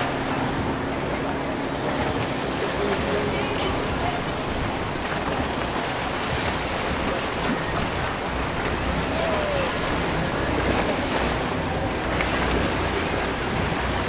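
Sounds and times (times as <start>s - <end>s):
low boat engine rumble: 0.0s - 14.0s
water rushing along hull: 0.0s - 14.0s.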